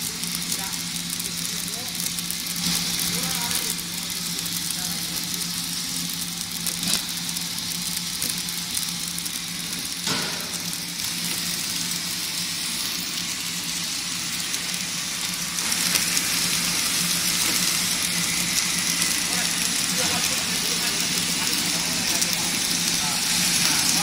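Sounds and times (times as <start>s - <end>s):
packing machine humming: 0.0s - 24.0s.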